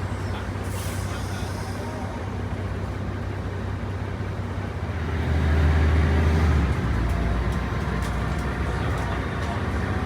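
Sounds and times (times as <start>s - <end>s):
diesel bus engine rumbling: 0.0s - 10.0s.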